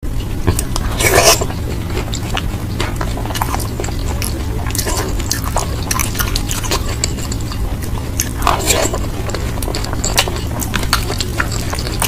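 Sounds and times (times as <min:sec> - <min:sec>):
low hum: 0:00.0 - 0:12.0
person chewing with wet mouth sounds: 0:00.2 - 0:12.0.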